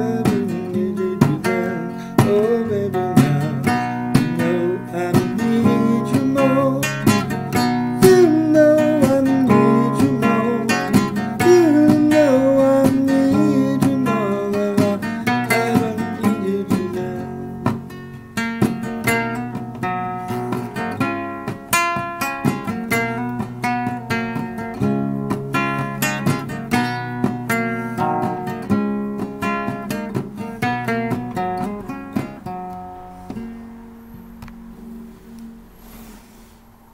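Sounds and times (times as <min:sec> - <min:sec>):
acoustic guitar chords: 0:00.0 - 0:36.3.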